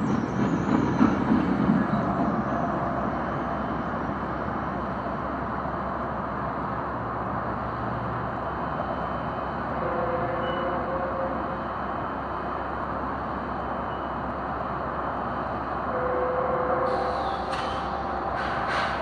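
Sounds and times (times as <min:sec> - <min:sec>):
road traffic: 0:00.0 - 0:19.0
train rumbling: 0:00.0 - 0:19.0.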